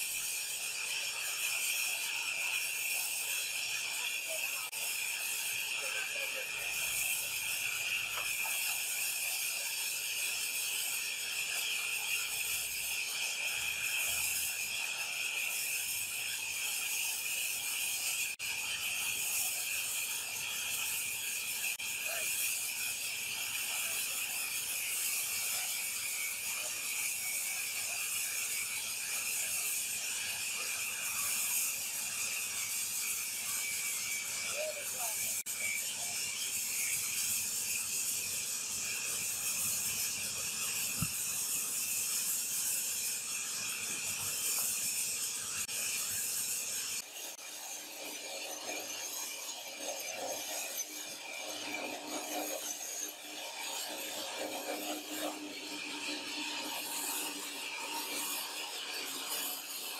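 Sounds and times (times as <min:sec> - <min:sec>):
sawmill machinery rattling: 0:00.0 - 0:59.9.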